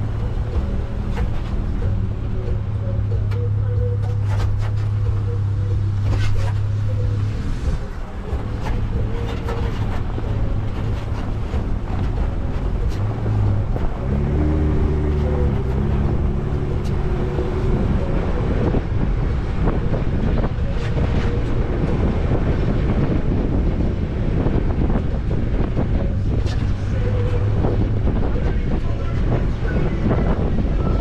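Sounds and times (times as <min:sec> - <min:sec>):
car engine droning: 0:00.0 - 0:31.0
wind buffeting microphone: 0:00.0 - 0:31.0.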